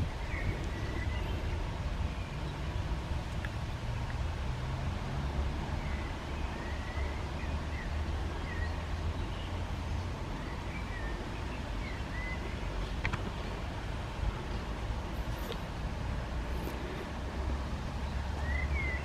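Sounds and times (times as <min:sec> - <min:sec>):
steady low rumble: 0:00.0 - 0:18.7.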